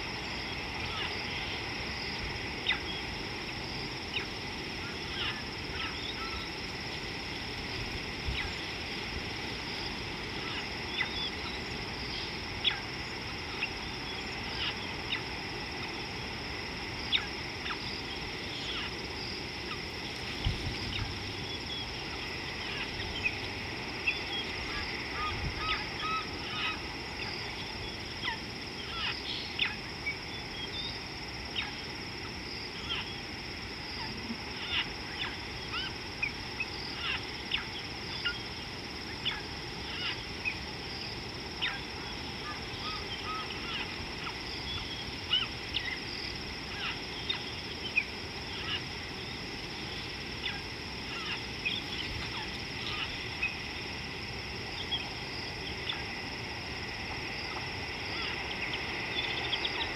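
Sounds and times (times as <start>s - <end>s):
steady high-pitched hum: 0.0s - 59.9s
wild birds chirping: 0.0s - 59.9s.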